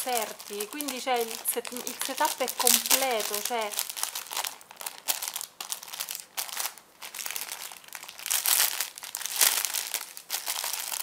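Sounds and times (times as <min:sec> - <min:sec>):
plastic cellophane crinkling: 0:00.0 - 0:11.0.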